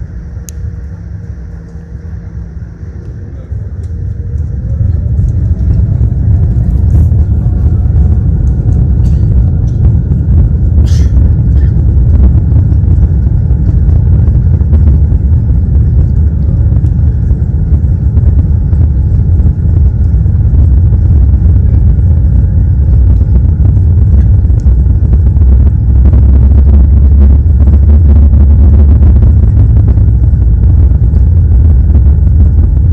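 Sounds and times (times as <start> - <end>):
jet engines rumbling in cabin: 0.0 - 32.9.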